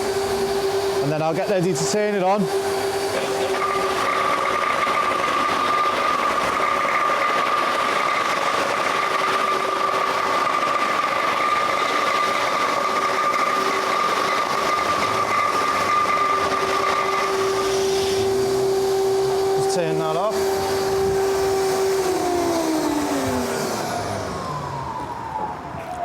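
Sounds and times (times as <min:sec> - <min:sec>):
dust extraction vacuum running: 0:00.0 - 0:26.0
floor grinder high whine: 0:00.0 - 0:26.0.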